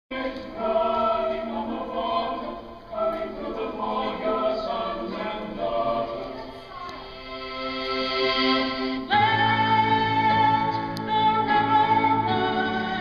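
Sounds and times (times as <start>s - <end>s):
choir singing sustained notes: 0.1s - 13.0s.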